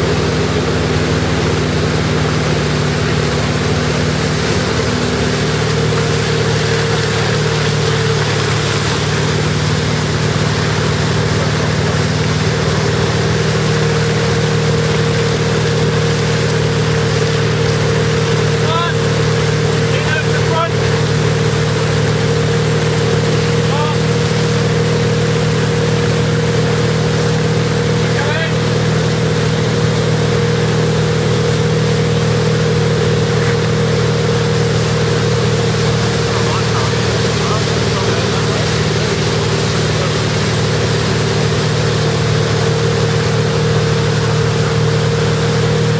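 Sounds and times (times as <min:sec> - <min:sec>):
boat engine droning: 0:00.0 - 0:45.9
water rushing from wake: 0:00.0 - 0:45.9.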